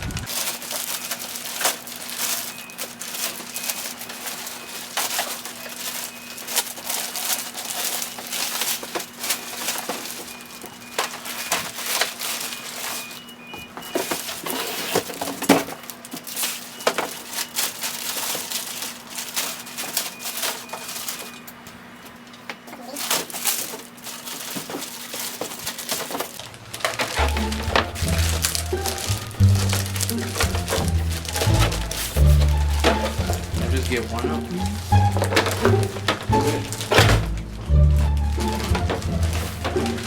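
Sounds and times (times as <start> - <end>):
cardboard box crunching: 0.0 - 21.4, 22.8 - 40.0.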